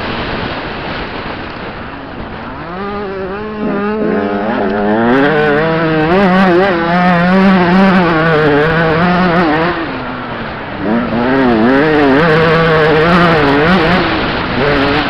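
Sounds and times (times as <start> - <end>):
dirt bike engine revving: 1.8 - 15.0.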